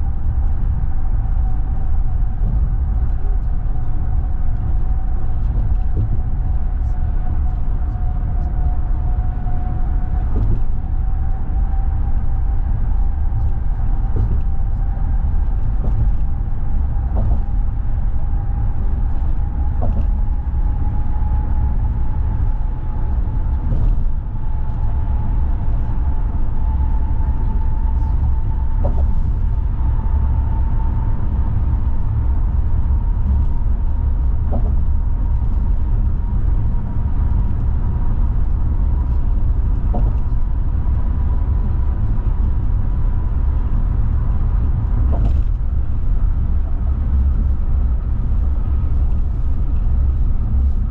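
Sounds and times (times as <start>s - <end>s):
car tyres and engine rumbling: 0.0s - 50.9s.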